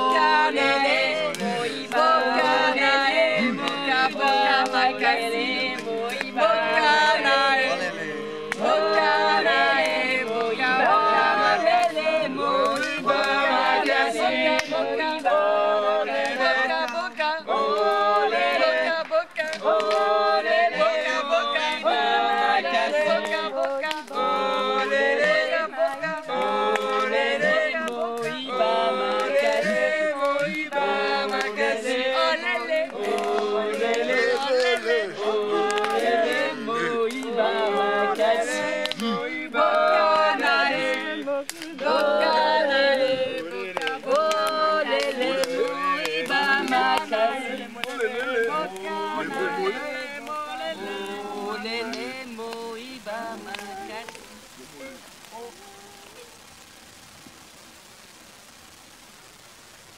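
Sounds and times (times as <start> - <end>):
group singing without instruments: 0.0 - 56.6.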